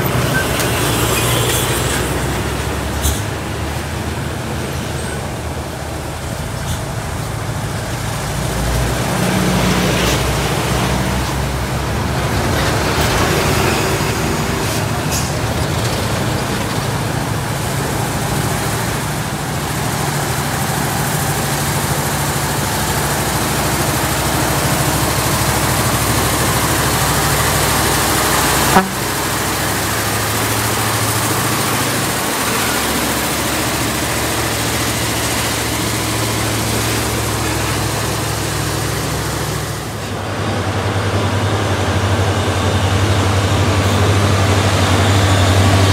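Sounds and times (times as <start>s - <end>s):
heavy vehicle engines passing: 0.0s - 45.9s.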